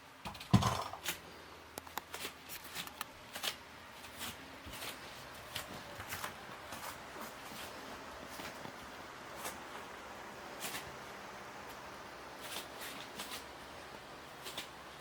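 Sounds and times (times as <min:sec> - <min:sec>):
steady soft hiss: 0:00.0 - 0:15.0.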